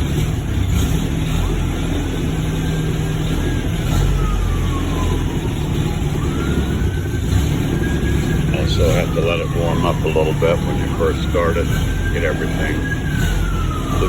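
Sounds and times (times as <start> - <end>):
car engine idling: 0.0 - 14.0
siren wailing: 1.2 - 14.0.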